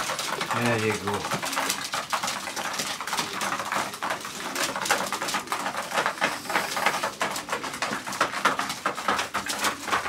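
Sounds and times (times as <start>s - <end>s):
pigeons pecking grain: 0.0s - 10.0s
scuffling: 0.0s - 10.0s.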